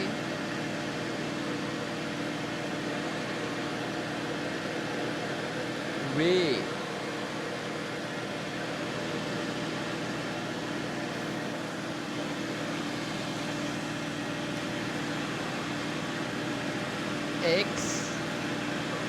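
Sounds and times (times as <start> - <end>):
airplane engines droning: 2.8 - 19.0.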